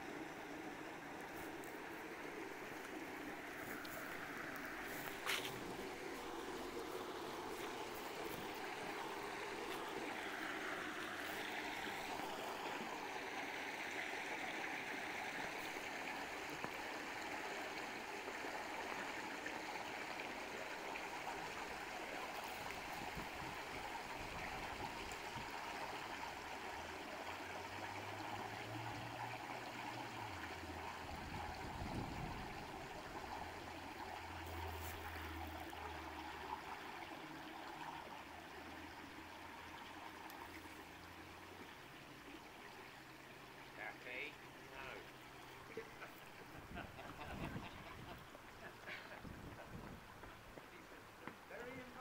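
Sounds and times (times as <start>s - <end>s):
water gushing and splashing: 0.0s - 49.1s.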